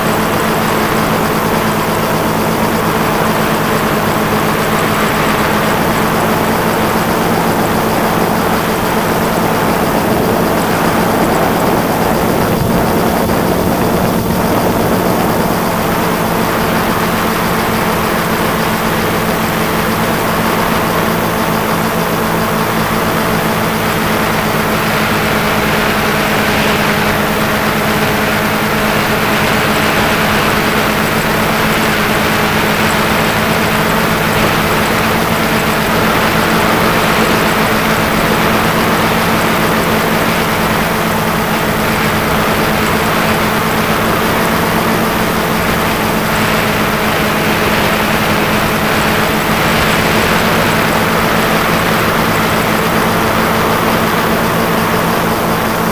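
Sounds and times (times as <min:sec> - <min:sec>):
drone motors humming: 0:00.0 - 0:55.9.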